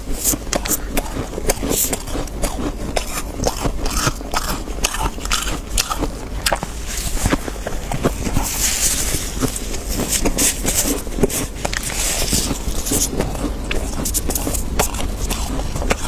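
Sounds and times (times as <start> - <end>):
frost crunching: 0.0 - 16.0.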